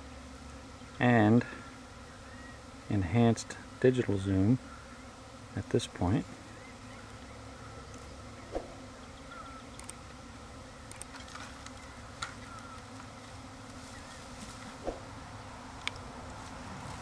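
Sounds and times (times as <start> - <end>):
bee swarm buzzing: 0.0 - 17.0.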